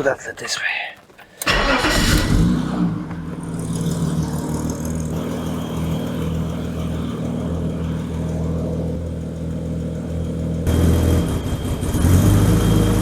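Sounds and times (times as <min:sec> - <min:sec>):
car engine running: 0:01.4 - 0:13.0.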